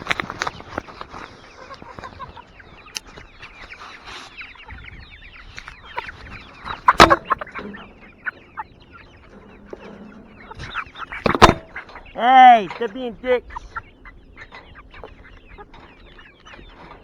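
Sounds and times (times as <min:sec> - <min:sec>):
chicken squawk: 0:00.0 - 0:17.0
chickens clucking and chirping: 0:00.0 - 0:17.0.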